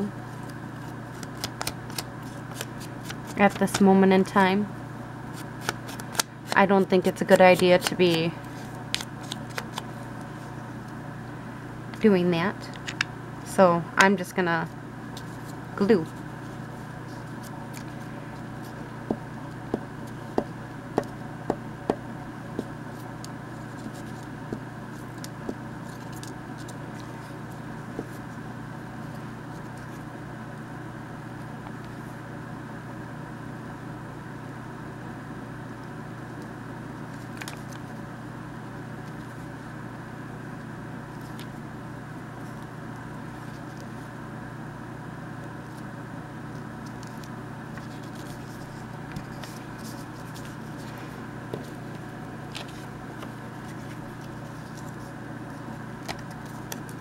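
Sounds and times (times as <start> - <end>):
background hum: 0.0 - 57.0.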